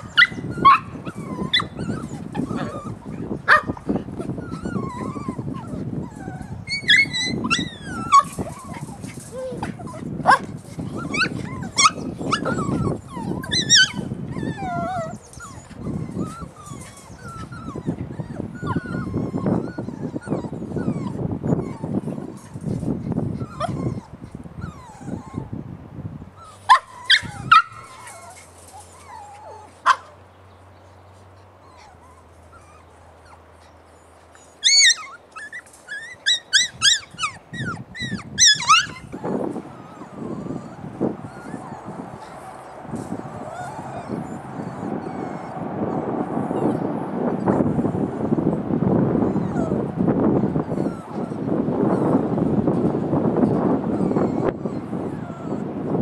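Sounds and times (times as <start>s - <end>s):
puppies yipping and whining: 0.0s - 25.6s, 26.2s - 56.0s.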